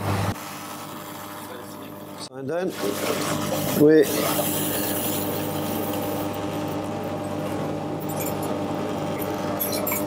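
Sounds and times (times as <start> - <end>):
kitchen machinery humming: 0.0 - 10.0.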